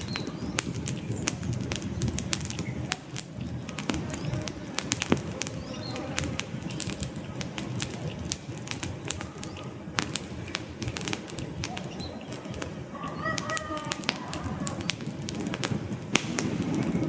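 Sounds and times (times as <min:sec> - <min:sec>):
low rush of flames: 0:00.0 - 0:17.0
wood fire crackling and popping: 0:00.0 - 0:17.0.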